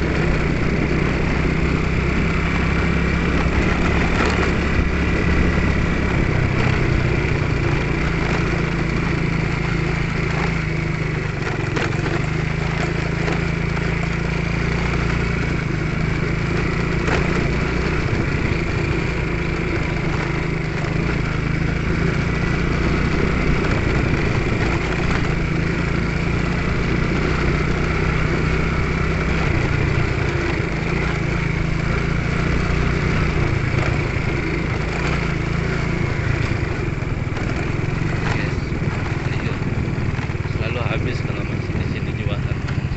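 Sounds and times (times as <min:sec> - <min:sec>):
small motorcycle engine droning: 0:00.0 - 0:42.9.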